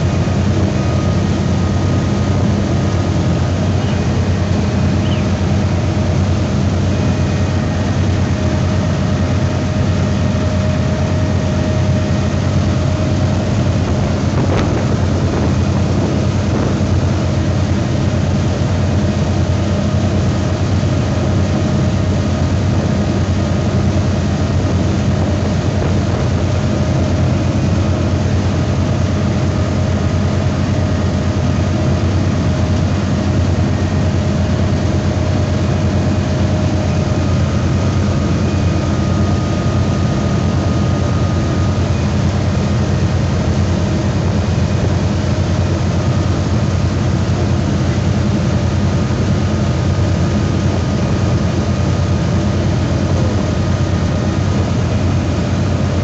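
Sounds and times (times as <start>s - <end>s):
churning water rushing: 0.0s - 56.0s
motorboat engine droning: 0.0s - 56.0s.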